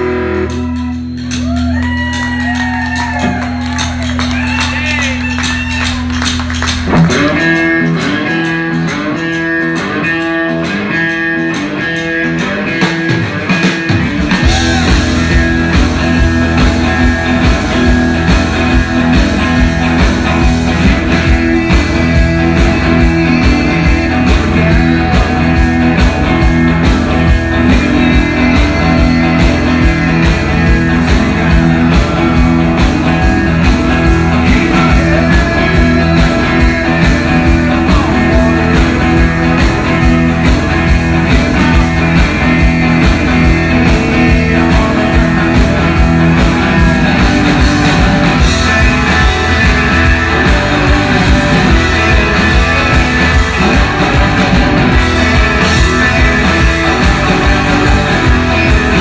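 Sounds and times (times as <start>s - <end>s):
bass and drums: 0.0s - 59.0s
electric guitar riff: 0.0s - 59.0s
rock band playing: 0.0s - 59.0s.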